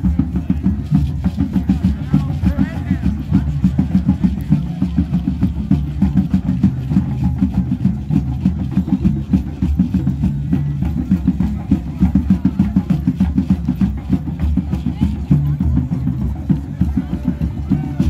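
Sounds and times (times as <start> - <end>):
hand drums playing: 0.0 - 18.0.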